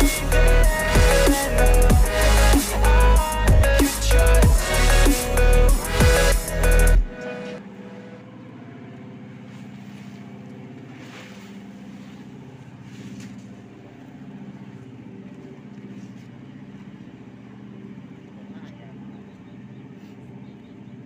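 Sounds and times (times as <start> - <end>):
ship diesel engine drone: 0.0 - 21.0.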